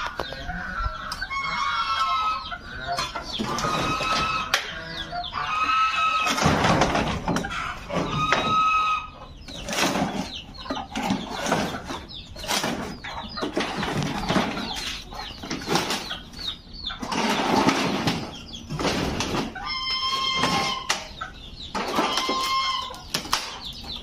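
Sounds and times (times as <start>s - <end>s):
poultry squawking: 0.0s - 24.0s.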